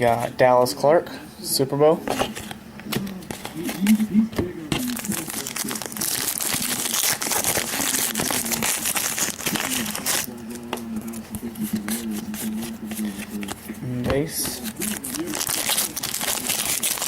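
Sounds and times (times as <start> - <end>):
cards clicking and rustling: 2.0 - 17.0
foil wrapper crinkling: 2.2 - 17.0.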